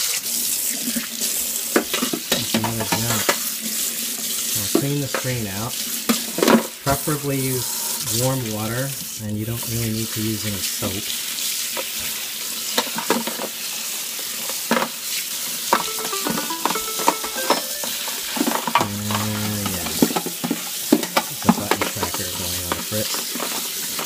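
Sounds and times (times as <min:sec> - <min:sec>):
tap water running and splashing: 0:00.0 - 0:15.9, 0:18.8 - 0:24.0.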